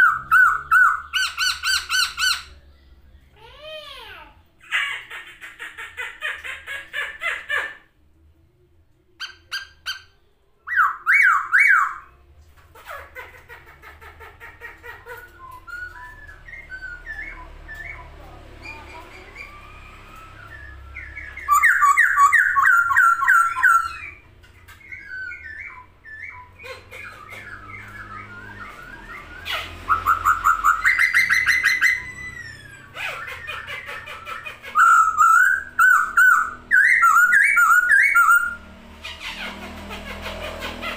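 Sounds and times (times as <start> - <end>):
laughingthrush singing: 0.0 - 3.8, 9.2 - 40.9.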